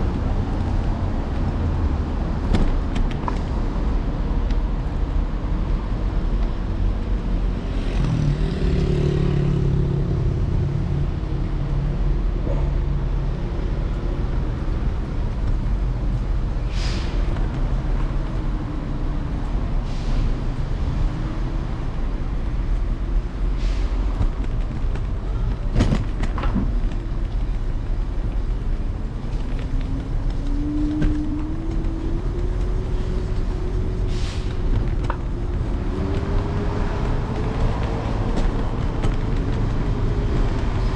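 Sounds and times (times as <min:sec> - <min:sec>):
road rumble: 0:00.0 - 0:40.9
traffic noise: 0:00.0 - 0:40.9.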